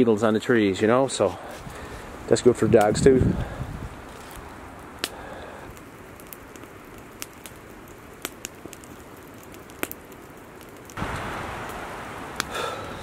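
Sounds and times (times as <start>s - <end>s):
campfire crackling: 0.0s - 13.0s
low steady hiss: 0.0s - 13.0s.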